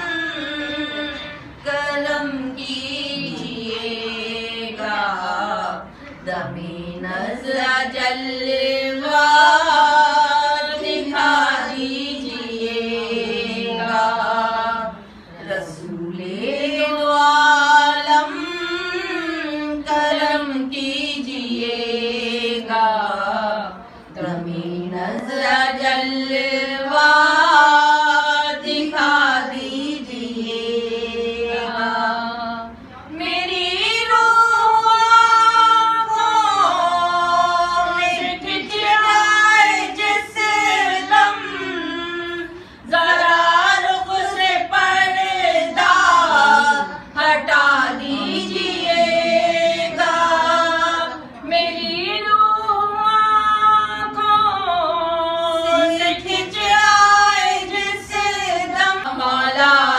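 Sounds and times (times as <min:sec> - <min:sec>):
women singing unaccompanied: 0:00.0 - 0:59.9.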